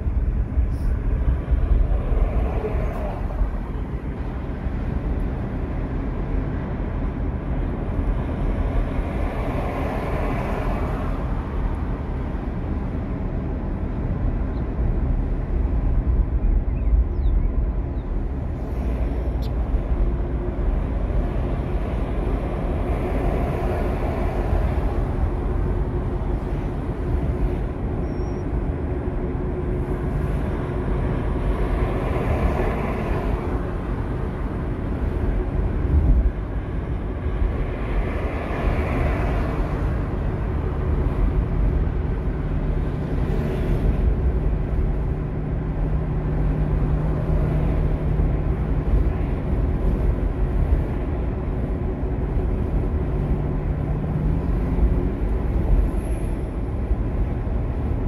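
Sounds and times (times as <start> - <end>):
car tyre and road noise: 0.0 - 58.0.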